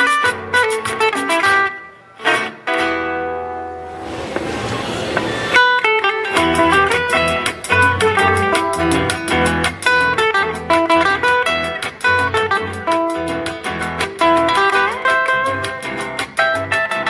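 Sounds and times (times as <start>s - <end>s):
guitar through loudspeaker: 0.0s - 17.0s.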